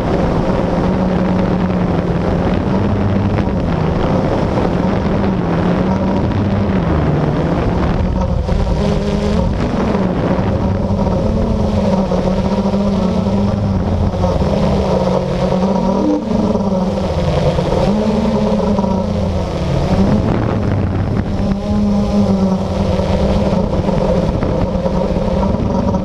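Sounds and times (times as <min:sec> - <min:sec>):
drone motors humming: 0:00.0 - 0:26.0
wind buffeting microphone: 0:00.0 - 0:26.0.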